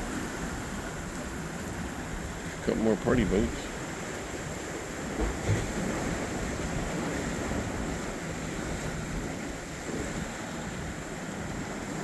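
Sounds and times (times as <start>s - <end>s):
boat engine drone: 0.0s - 12.0s
wind: 0.0s - 12.0s.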